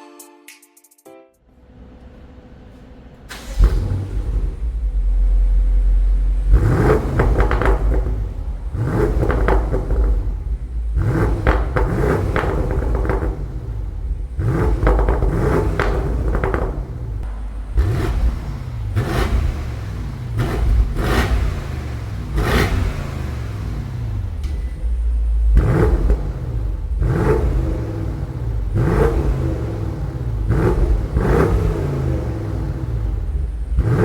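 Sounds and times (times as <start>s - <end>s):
car engine idling and revving: 1.6s - 34.0s.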